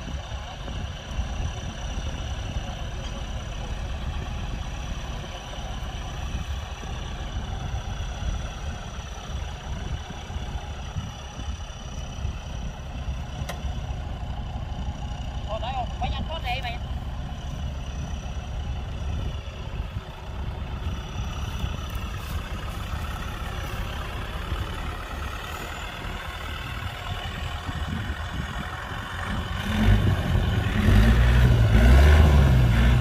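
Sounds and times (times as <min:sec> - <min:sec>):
tractor diesel engine revving: 0:00.0 - 0:33.0.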